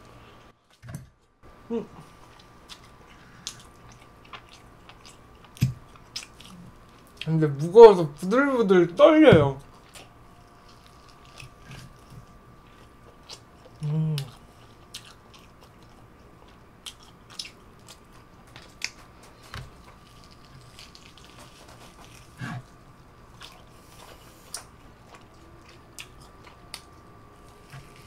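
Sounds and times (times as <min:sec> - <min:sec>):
faint steady hum: 0:00.0 - 0:28.0
person chewing meat: 0:01.9 - 0:07.3, 0:09.6 - 0:28.0.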